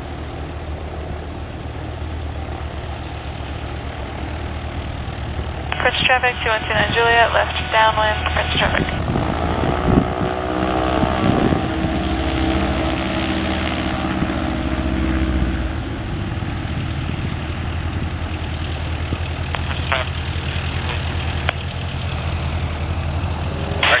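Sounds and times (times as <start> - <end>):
propeller plane engine running: 0.0 - 24.0.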